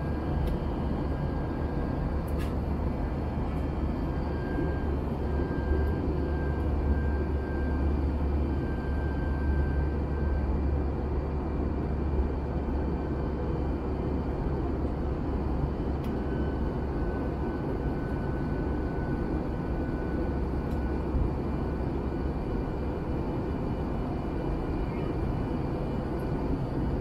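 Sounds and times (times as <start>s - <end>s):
airplane cabin engine drone: 0.0s - 27.0s.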